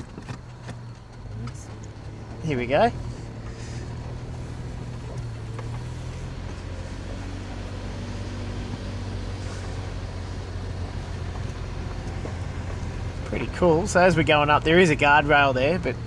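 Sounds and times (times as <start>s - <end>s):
car engine pulling uphill: 0.0s - 16.0s.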